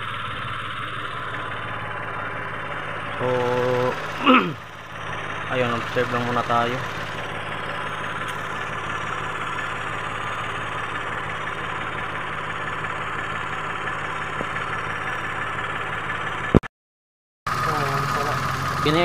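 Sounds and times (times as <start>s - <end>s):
car engine idling: 0.0s - 16.6s, 17.5s - 19.0s.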